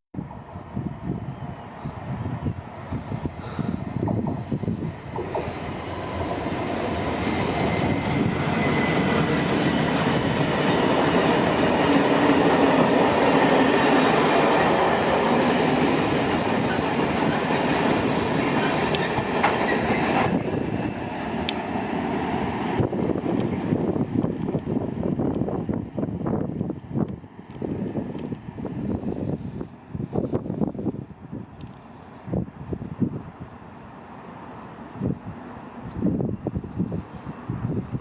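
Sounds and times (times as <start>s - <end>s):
freight train wheels on rails: 0.1s - 38.0s.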